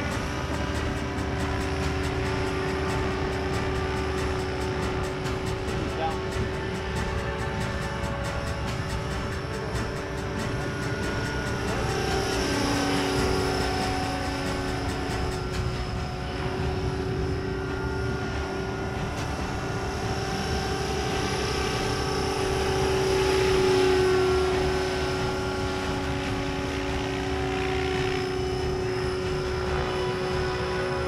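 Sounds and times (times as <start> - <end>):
model helicopter motor whine: 0.0 - 31.0
rotor blade noise: 0.0 - 31.0.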